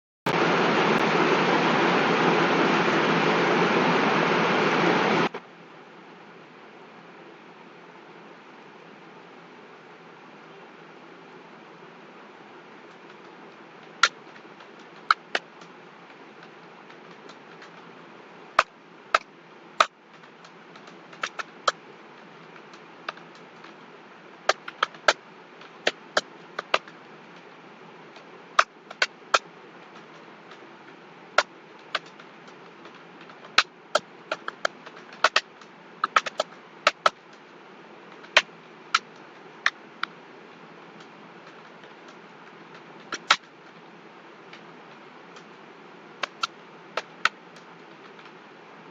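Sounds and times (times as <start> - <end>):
steady background hiss: 0.3 - 48.9.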